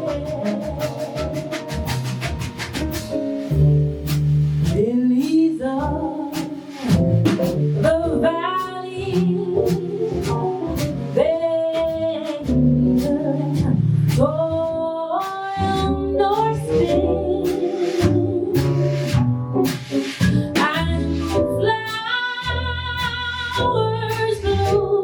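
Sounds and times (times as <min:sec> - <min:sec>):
jazz ensemble playing a ballad: 0:00.0 - 0:25.0.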